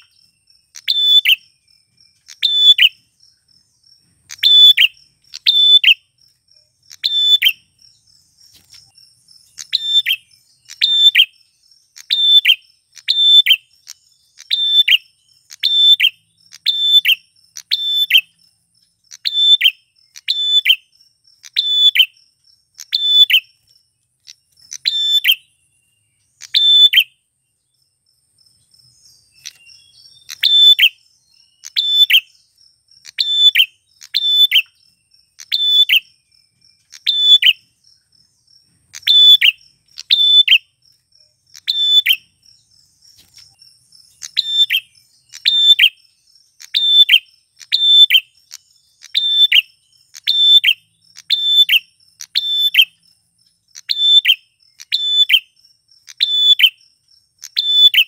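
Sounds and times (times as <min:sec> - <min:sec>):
bird chirping: 0:00.0 - 0:58.0
high insect-like tone: 0:00.0 - 0:58.0.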